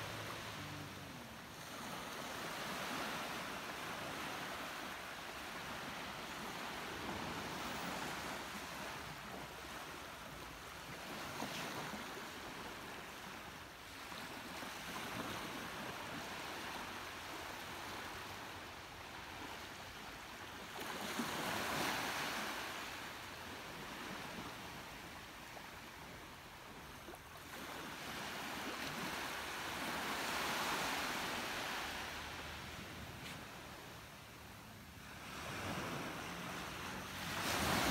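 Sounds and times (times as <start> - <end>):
small waves washing onto shore: 0.0 - 37.9.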